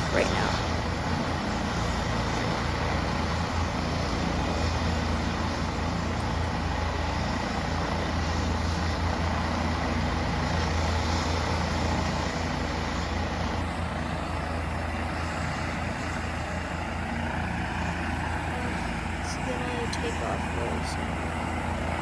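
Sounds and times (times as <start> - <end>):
helicopter engines and rotor: 0.0 - 22.0.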